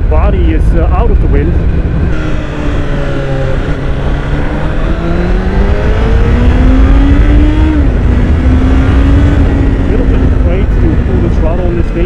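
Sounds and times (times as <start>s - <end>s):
motorcycle engine accelerating: 0.0s - 12.0s
wind rumble: 0.0s - 12.0s.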